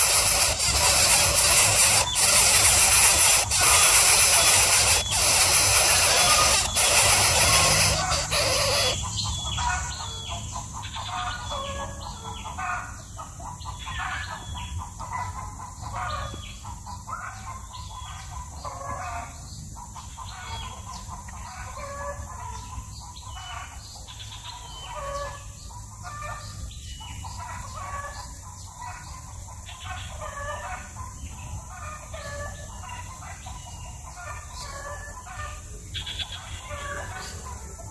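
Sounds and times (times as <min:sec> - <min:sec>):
birds calling rapidly: 0:00.0 - 0:37.9.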